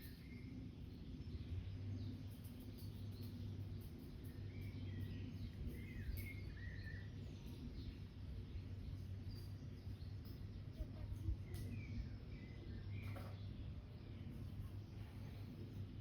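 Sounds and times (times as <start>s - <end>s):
low background hum: 0.0s - 16.0s
songbirds chirping: 0.0s - 16.0s.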